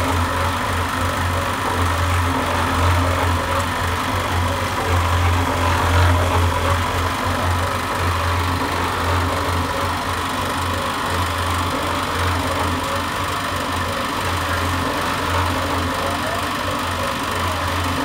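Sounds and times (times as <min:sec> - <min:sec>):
mortar mixer running: 0:00.0 - 0:18.0.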